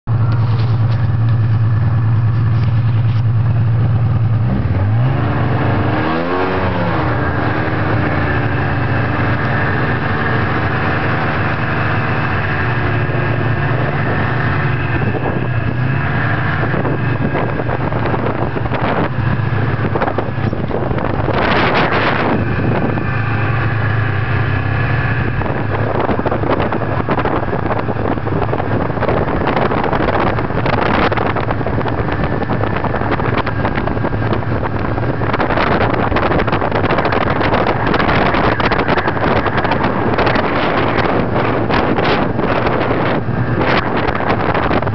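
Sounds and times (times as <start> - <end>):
rush of noise: 0.1 - 44.9
snowmobile engine droning: 0.1 - 44.9.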